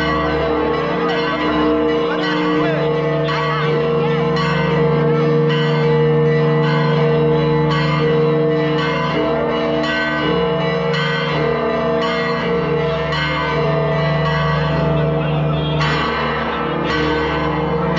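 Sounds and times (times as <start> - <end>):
church bells ringing: 0.0 - 17.9.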